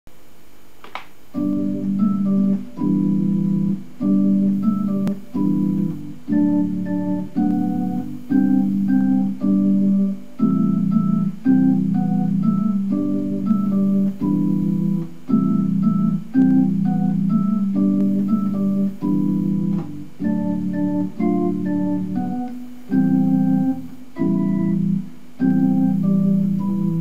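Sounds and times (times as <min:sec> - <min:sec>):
electronic keyboard melody: 0:01.3 - 0:27.0.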